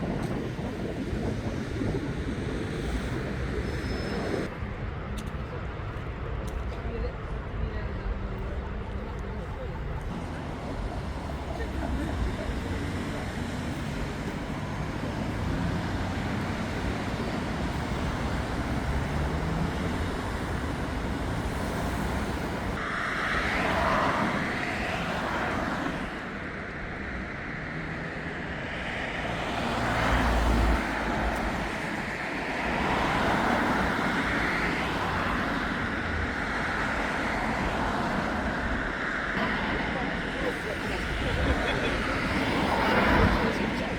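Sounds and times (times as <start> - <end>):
vehicles passing on busy street: 0.0 - 43.9.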